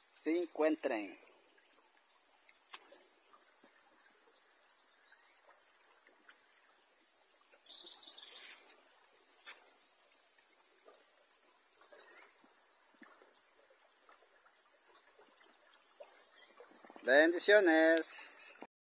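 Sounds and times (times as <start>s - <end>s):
insects chorus: 0.0s - 18.7s
faint ticks: 1.6s - 18.7s.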